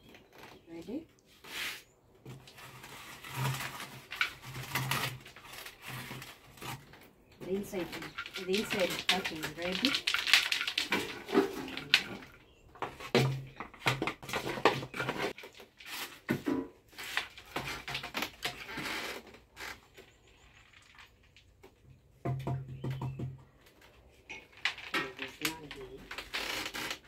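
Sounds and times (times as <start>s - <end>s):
gourd clicks and knocks: 2.2s - 27.0s.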